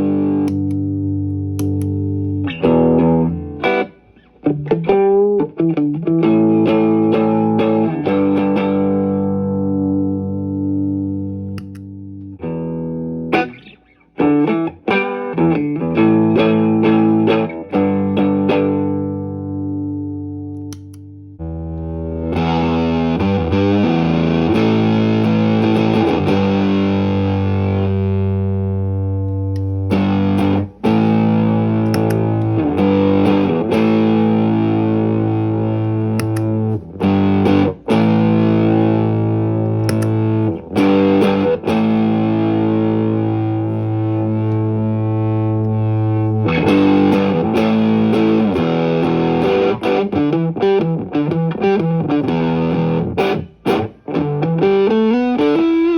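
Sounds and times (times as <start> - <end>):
distorted electric guitar chords: 0.0 - 55.9.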